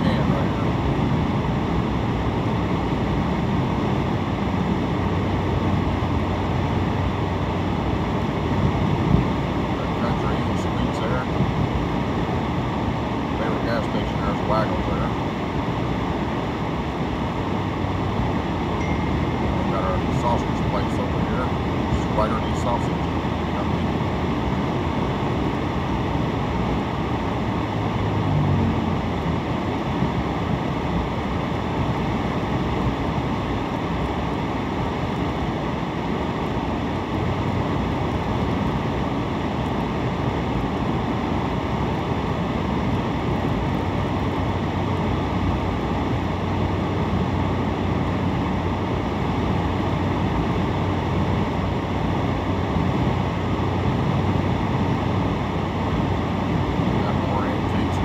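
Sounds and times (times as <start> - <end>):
car engine low hum: 0.0 - 58.0.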